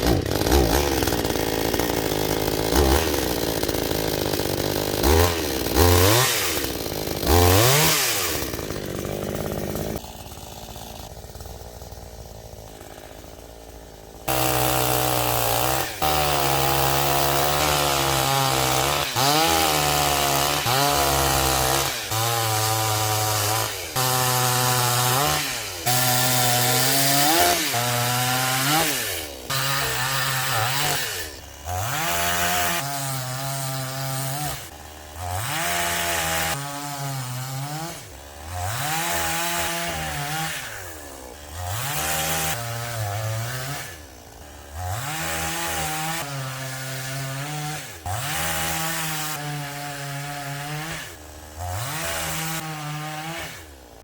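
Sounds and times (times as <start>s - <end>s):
chainsaw cutting wood revving: 0.0s - 54.0s.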